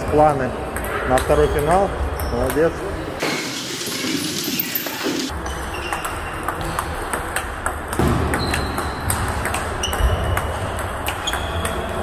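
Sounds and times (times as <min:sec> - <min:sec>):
table tennis balls clicking and pinging: 0:00.0 - 0:12.0.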